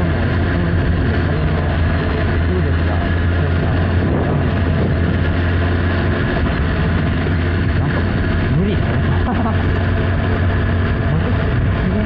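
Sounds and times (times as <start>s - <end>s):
motorcycle engine cruising: 0.0s - 12.0s
road and wind rush: 0.0s - 12.0s.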